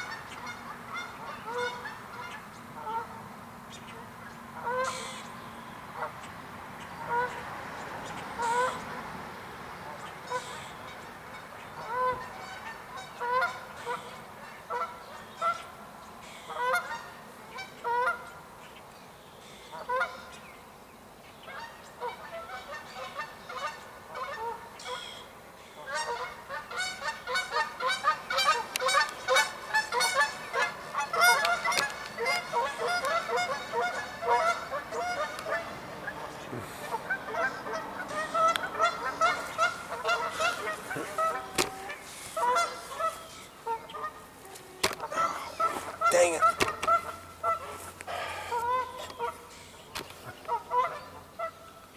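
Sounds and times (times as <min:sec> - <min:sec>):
geese honking: 0:00.0 - 0:05.4, 0:06.0 - 0:09.1, 0:09.8 - 0:18.7, 0:19.4 - 0:20.4, 0:21.4 - 0:51.9.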